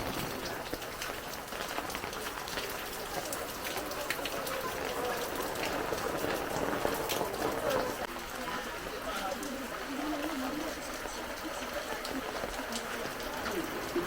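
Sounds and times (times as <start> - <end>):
heavy rain falling: 0.0 - 14.0
raindrops ticking on hard surfaces: 0.0 - 14.0.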